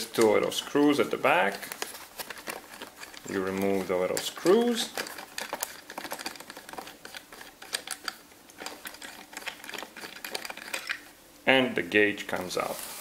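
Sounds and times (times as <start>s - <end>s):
light clicks and scratches: 0.0s - 11.1s.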